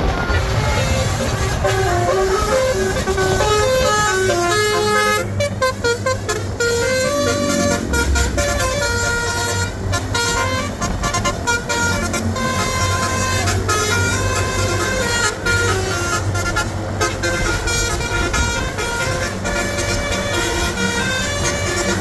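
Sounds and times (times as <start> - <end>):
musical bus horn playing a tune: 0.0 - 22.0.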